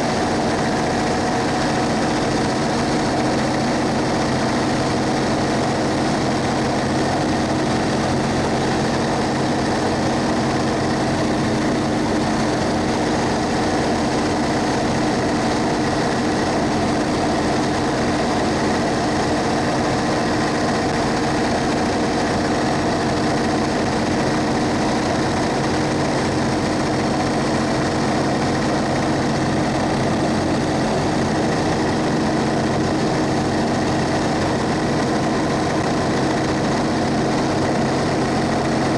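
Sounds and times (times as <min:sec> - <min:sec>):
diesel bus engine running: 0:00.0 - 0:38.9.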